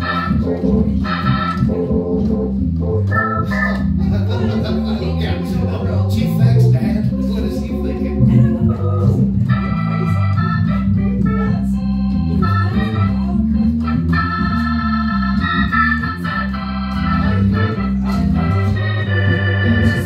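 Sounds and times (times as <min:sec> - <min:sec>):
blues organ playing: 0:00.0 - 0:20.0.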